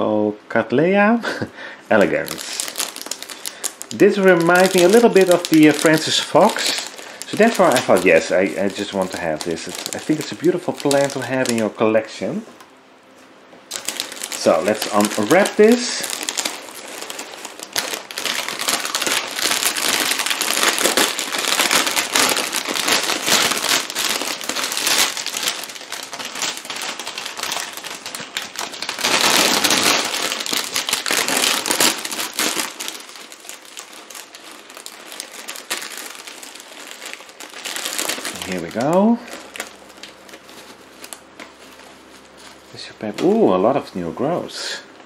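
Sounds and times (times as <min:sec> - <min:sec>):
packaging crinkling and rustling: 0:01.9 - 0:12.4, 0:13.7 - 0:44.5.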